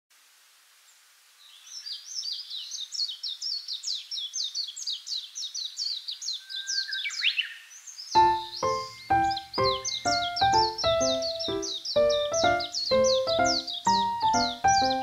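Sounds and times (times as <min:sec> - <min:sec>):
bird singing: 0:01.4 - 0:15.0.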